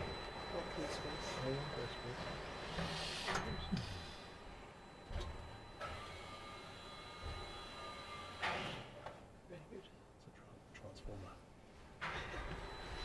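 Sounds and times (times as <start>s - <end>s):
thin steady whine: 0.0s - 13.0s.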